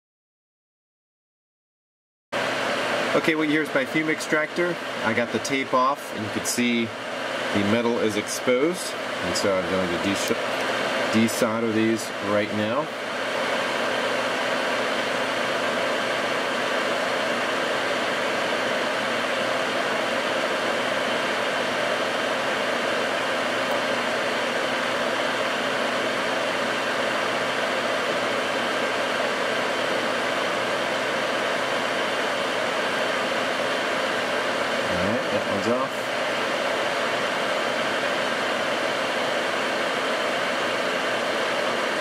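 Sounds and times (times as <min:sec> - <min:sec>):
extractor fan running: 0:02.4 - 0:42.0.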